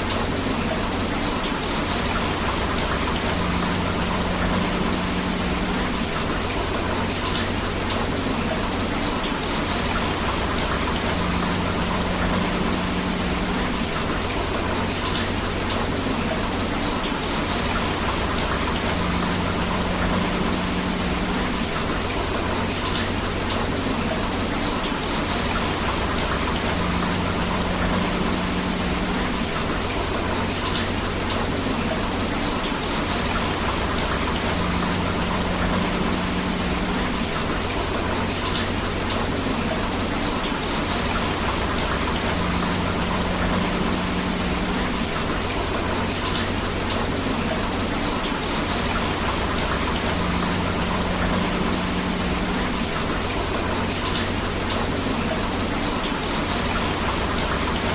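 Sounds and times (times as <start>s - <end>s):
rushing river: 0.0s - 57.9s
steady rain: 0.0s - 57.9s.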